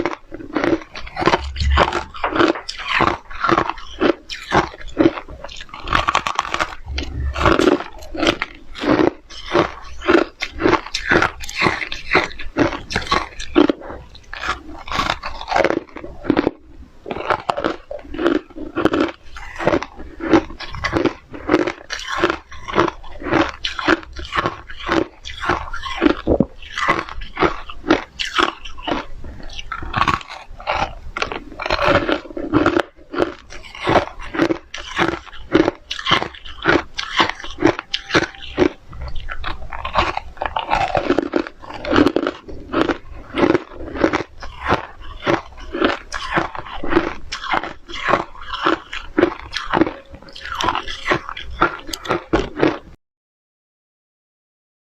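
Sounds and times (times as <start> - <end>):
person chewing crunchy ice: 0.0 - 53.0.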